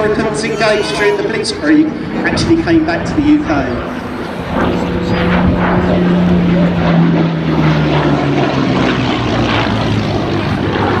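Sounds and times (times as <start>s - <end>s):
piston engine aircraft flying past: 0.0s - 11.0s.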